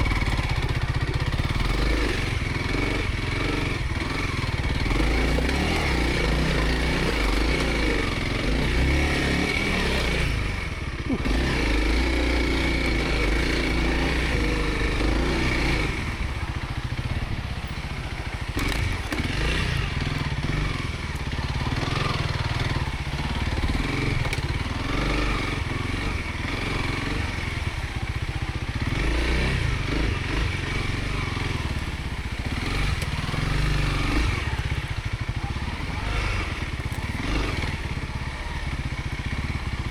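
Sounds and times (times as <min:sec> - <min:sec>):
motorcycle engine revving: 0:00.0 - 0:39.9
trail rumble: 0:00.0 - 0:39.9
wind: 0:00.0 - 0:39.9.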